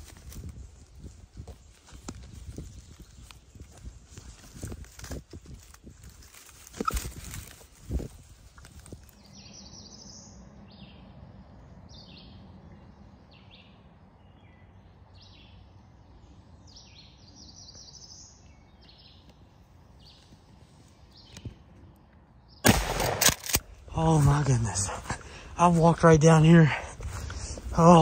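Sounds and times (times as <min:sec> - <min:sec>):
low wind rumble: 0:00.0 - 0:28.0
songbirds chirping: 0:00.0 - 0:28.0.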